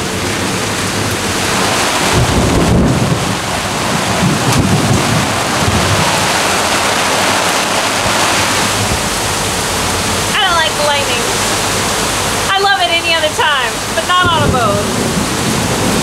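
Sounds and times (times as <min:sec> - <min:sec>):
low thunder rumbles: 0:00.0 - 0:12.5, 0:13.2 - 0:16.0
heavy rain on windows and deck: 0:00.0 - 0:16.0.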